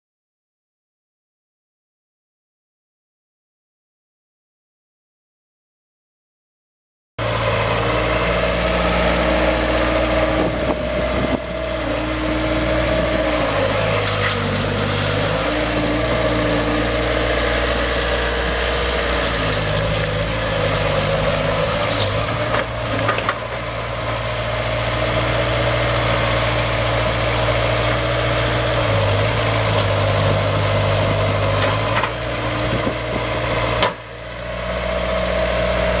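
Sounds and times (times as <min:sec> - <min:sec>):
diesel engine revving: 0:07.2 - 0:36.0.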